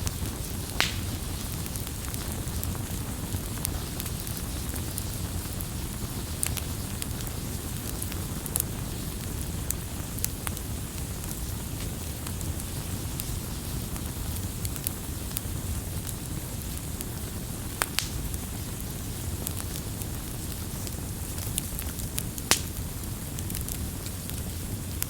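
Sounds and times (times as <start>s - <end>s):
low rumble of burning: 0.0s - 25.0s
wood fire crackling and popping: 0.0s - 25.0s.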